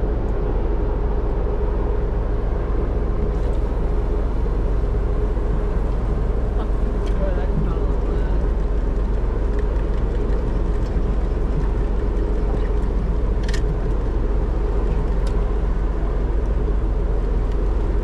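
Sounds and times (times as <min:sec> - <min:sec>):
faint steady hum: 0:00.0 - 0:18.0
wind buffeting microphone: 0:00.0 - 0:18.0.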